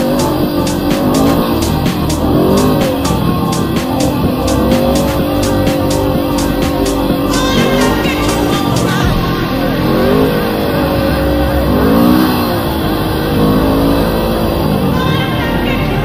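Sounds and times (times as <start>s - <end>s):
quad engine revving: 0.0s - 16.0s.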